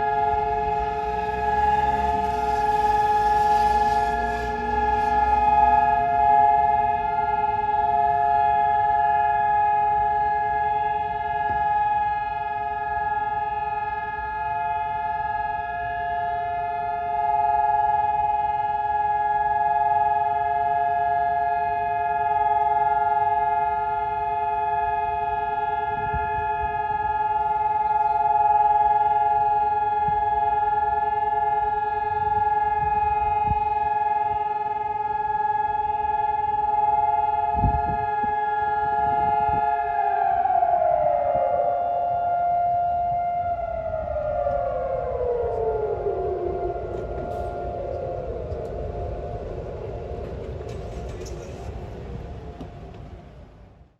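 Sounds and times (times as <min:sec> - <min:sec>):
steady siren chord: 0:00.0 - 0:53.9.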